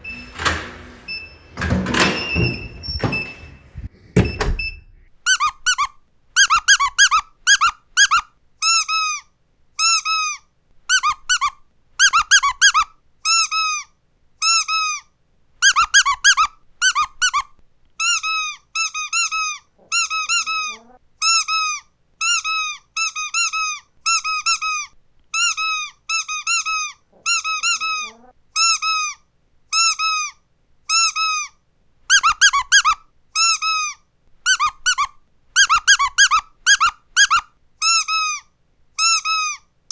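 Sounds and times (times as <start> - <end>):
squeaky dog toy squeaking: 5.2 - 9.2, 9.8 - 15.0, 15.6 - 31.5, 32.1 - 38.4, 39.0 - 39.6.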